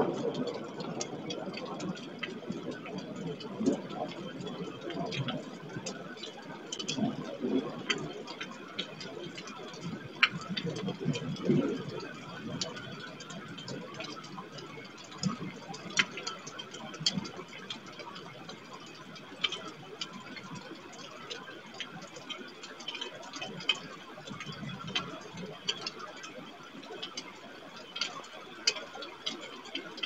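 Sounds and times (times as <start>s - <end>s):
raindrops ticking on housing: 0.0s - 30.0s.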